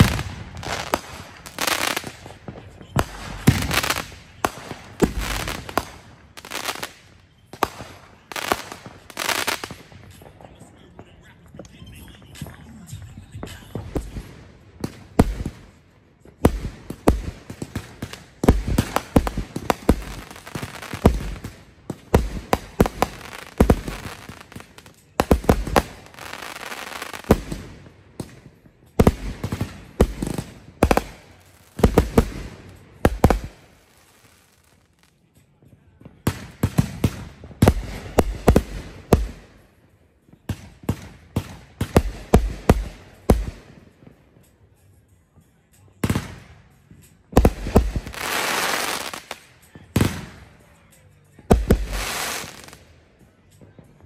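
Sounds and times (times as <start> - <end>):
fireworks crackling: 0.0 - 44.6, 45.7 - 53.8.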